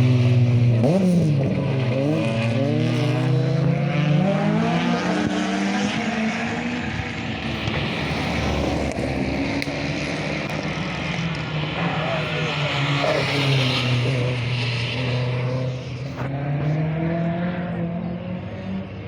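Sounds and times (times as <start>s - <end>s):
rally car engine accelerating: 0.0s - 19.0s.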